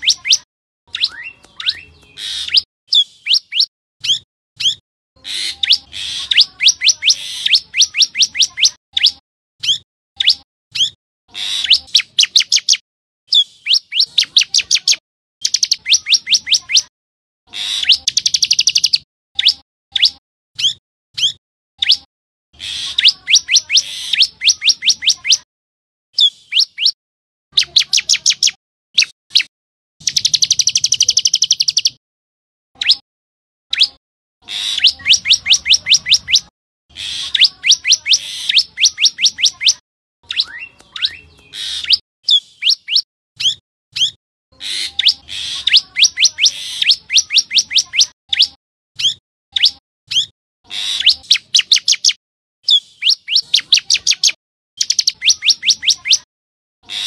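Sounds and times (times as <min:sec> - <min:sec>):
bird chirping sharply: 0:00.0 - 0:16.9, 0:17.7 - 0:25.4, 0:26.2 - 0:27.0, 0:27.6 - 0:32.0, 0:32.8 - 0:33.0, 0:33.7 - 0:56.3.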